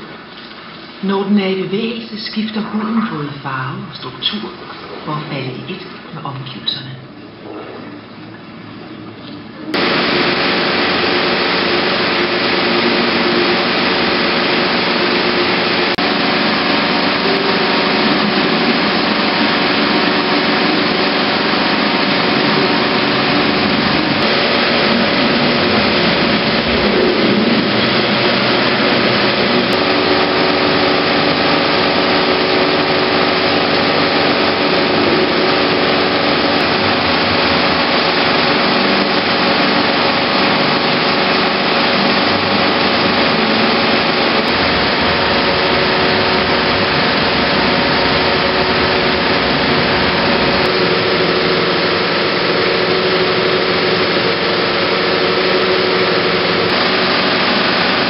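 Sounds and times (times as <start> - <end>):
film projector whirring: 0.0 - 58.0.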